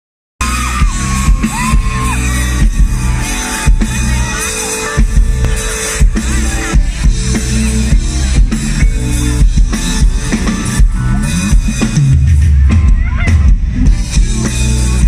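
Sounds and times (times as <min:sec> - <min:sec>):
live band playing r and b: 0:00.4 - 0:15.0.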